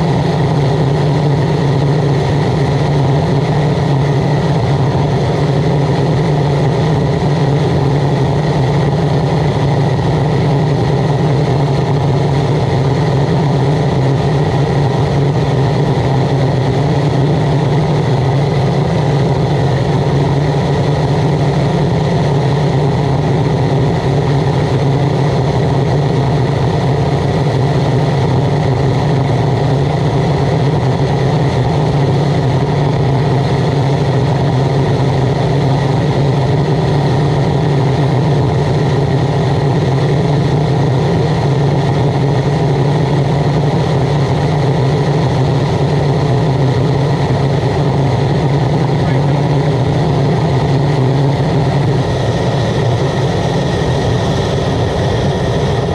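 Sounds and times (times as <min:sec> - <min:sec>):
oil burner blower and flame humming: 0:00.0 - 0:55.9.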